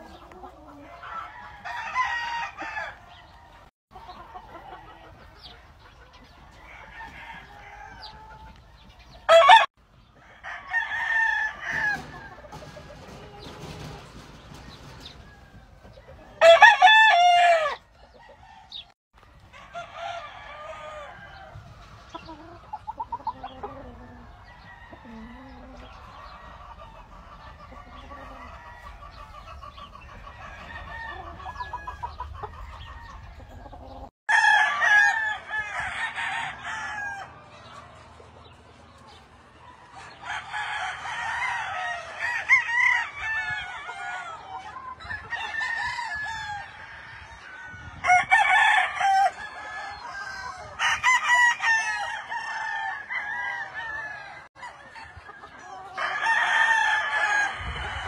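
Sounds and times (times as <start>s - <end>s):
chickens clucking: 0.0s - 58.0s
roosters crowing: 0.0s - 58.0s.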